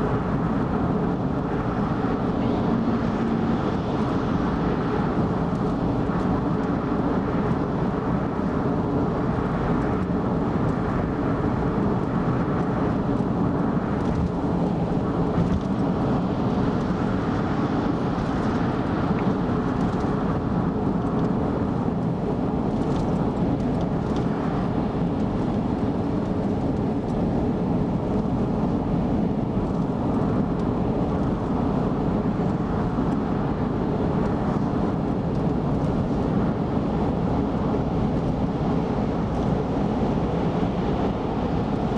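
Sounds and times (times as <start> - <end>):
car driving at speed: 0.0 - 41.9.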